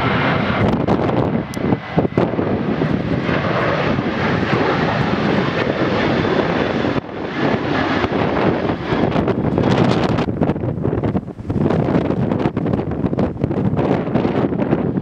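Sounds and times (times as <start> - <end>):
jet engines at climb thrust: 0.0 - 15.0.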